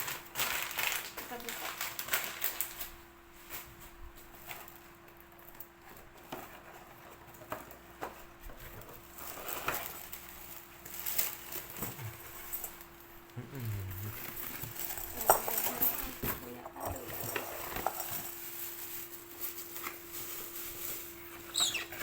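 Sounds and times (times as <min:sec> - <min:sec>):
objects tapping and rustling: 0:00.0 - 0:13.0, 0:14.0 - 0:22.0.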